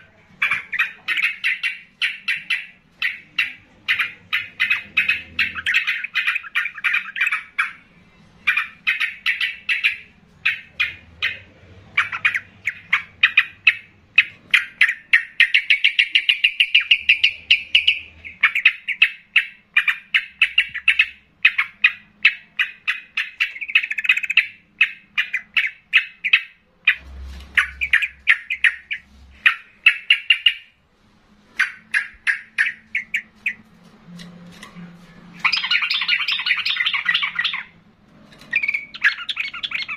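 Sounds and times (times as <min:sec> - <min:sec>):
bulbul singing: 0:00.0 - 0:30.8, 0:31.6 - 0:37.8, 0:38.4 - 0:39.9.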